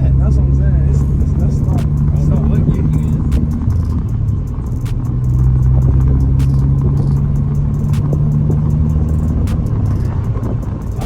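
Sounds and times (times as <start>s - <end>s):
car engine and road noise drone: 0.0s - 11.0s.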